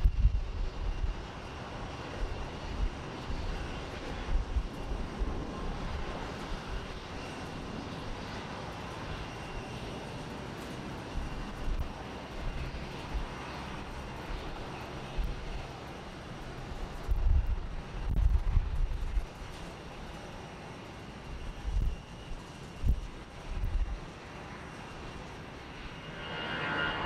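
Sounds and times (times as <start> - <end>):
distant jet engines rushing: 0.0 - 27.0.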